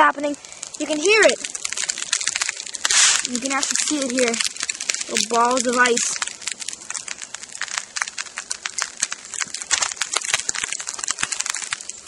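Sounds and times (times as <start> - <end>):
sleet ticking on surfaces: 0.4 - 12.0.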